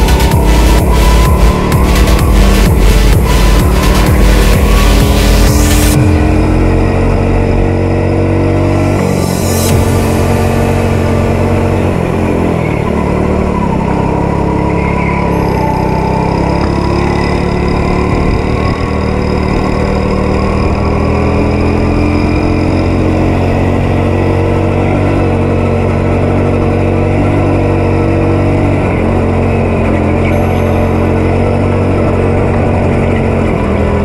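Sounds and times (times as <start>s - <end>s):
go-kart engine revving: 0.0s - 34.0s.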